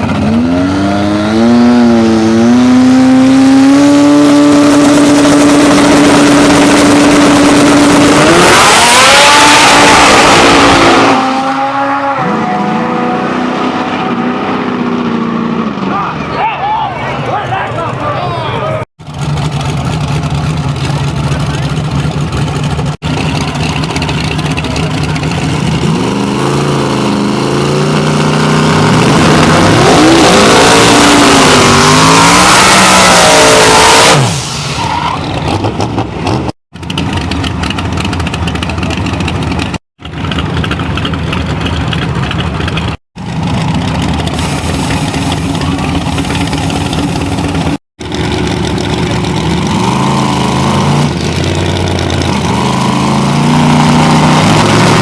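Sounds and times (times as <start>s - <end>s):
drag car engines at full throttle: 0.0s - 55.0s
engines revving: 0.0s - 55.0s.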